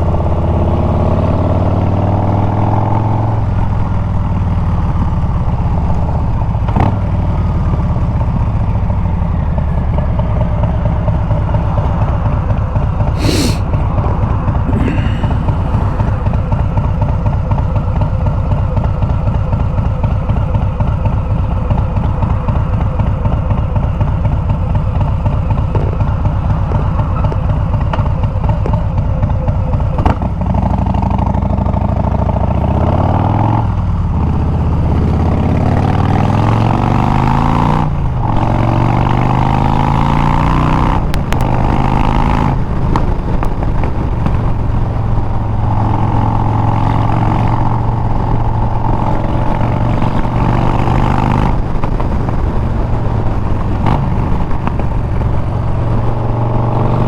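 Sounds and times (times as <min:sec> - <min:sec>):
motorcycle engine running: 0:00.0 - 0:13.1, 0:14.0 - 0:37.2, 0:37.8 - 0:57.0.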